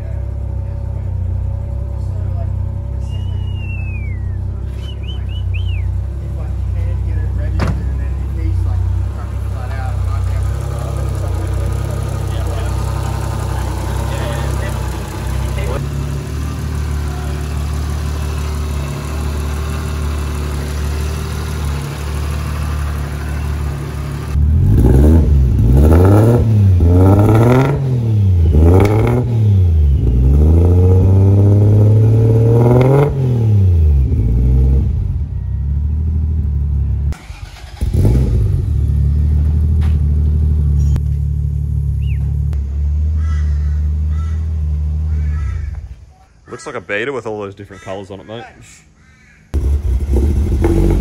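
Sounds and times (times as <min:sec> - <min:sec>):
car engine idling and revving: 0:00.0 - 0:46.2, 0:49.5 - 0:51.0.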